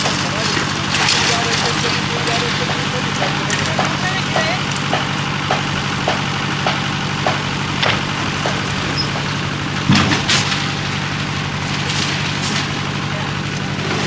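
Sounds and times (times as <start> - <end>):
concrete mixer engine running: 0.0 - 14.0
loud clatter: 0.0 - 14.0
regular short knocks: 0.0 - 14.0.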